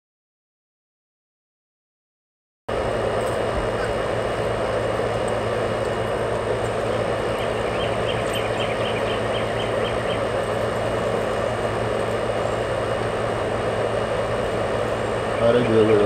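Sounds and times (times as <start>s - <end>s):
mechanical drone with low hum: 2.7s - 16.0s.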